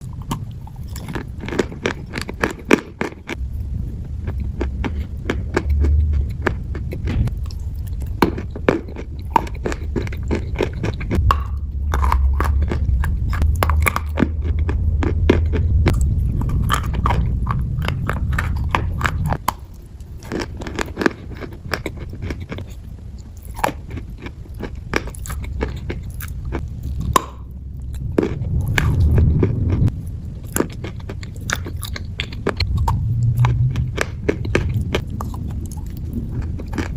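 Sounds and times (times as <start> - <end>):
chewing crunchy chalk: 0.0 - 36.9
low rumble: 0.0 - 36.9.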